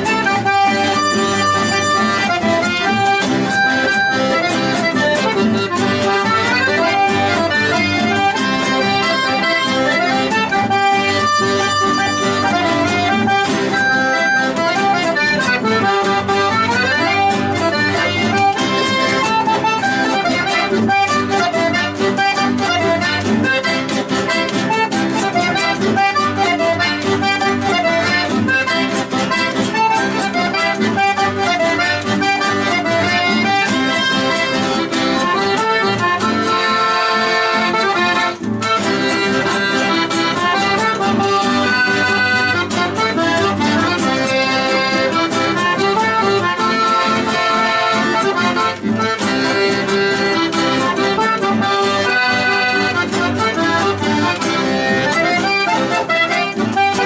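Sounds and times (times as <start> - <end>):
accordion playing lively tune: 0.0 - 57.0.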